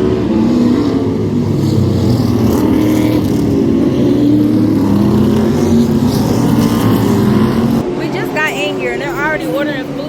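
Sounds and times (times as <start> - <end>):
vehicle engines droning: 0.0 - 10.0.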